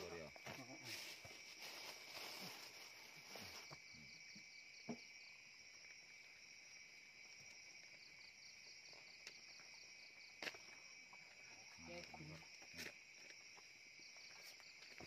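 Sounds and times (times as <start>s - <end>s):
insects calling: 0.0s - 15.0s.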